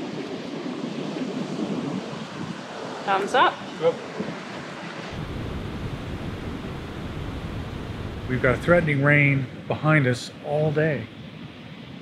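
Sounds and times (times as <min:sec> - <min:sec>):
wind buffeting microphone: 0:00.0 - 0:09.8
surf washing on shore: 0:00.0 - 0:12.0.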